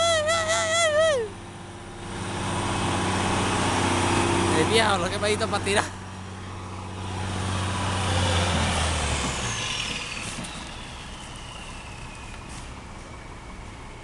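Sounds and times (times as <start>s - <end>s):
diesel truck engine revving: 0.5s - 14.0s.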